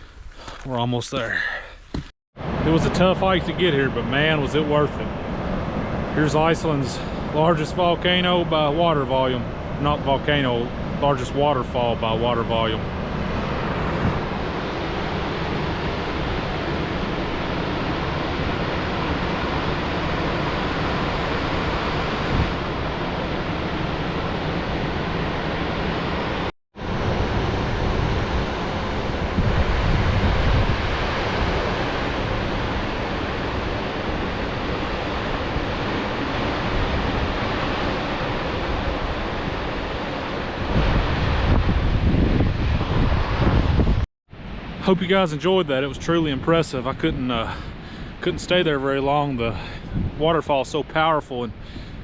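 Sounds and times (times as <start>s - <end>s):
wind rumbling on microphone: 1.9s - 52.0s.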